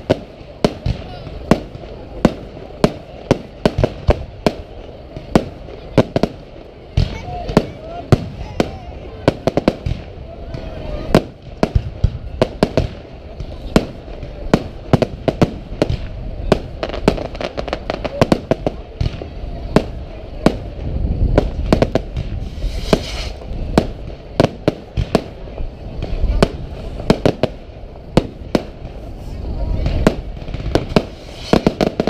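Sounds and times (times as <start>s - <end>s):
firework bangs: 0.0s - 32.0s
hissing crackle: 0.0s - 32.0s.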